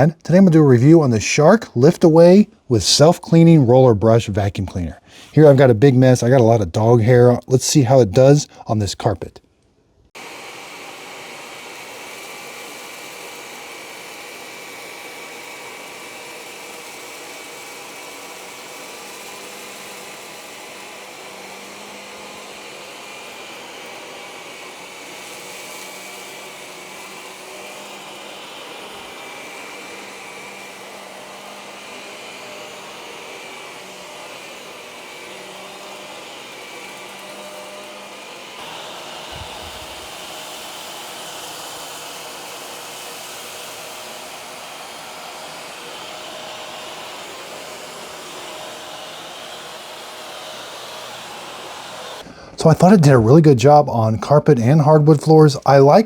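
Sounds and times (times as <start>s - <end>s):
vacuum cleaner running: 0.0s - 4.4s, 10.2s - 53.5s.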